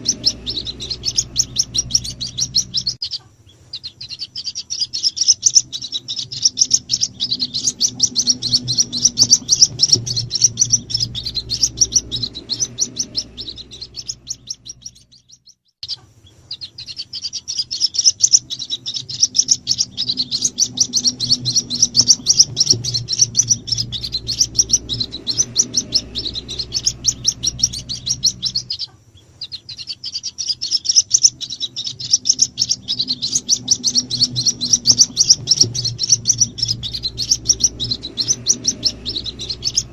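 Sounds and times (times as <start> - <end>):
bird chicks peeping: 0.0 - 39.9
low steady hum: 0.0 - 39.9.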